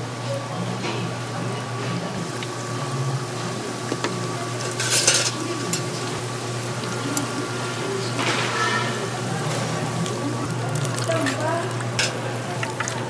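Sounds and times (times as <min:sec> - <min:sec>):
food sizzling in a pan: 0:02.2 - 0:12.8.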